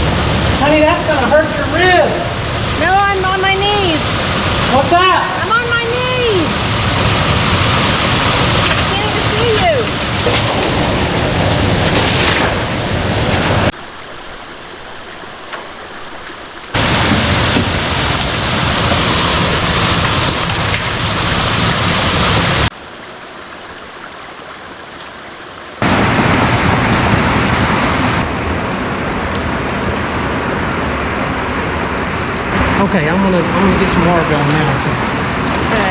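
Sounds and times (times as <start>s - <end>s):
water rushing through culvert: 0.0s - 35.9s.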